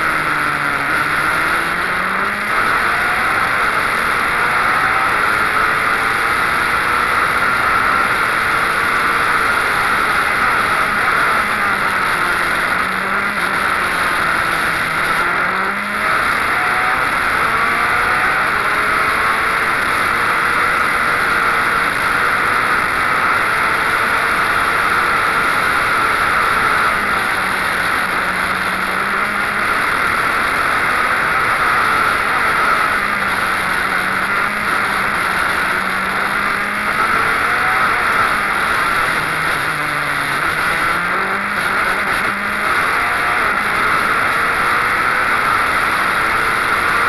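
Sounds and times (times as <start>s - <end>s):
racing car engine: 0.0s - 47.0s.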